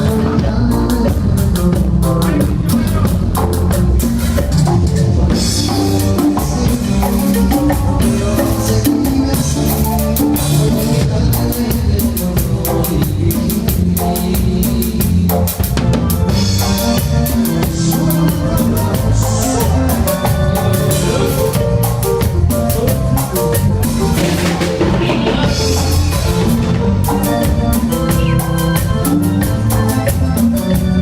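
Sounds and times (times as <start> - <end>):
drum kit fast beat: 0.0 - 31.0
live band playing: 0.0 - 31.0.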